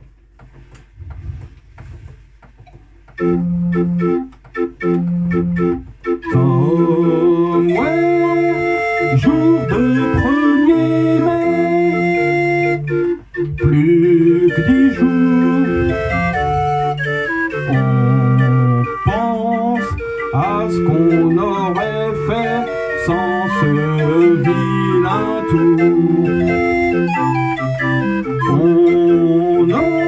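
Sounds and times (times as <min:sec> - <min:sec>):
street organ playing: 0:03.0 - 0:30.0
person singing sliding melody: 0:04.9 - 0:30.0.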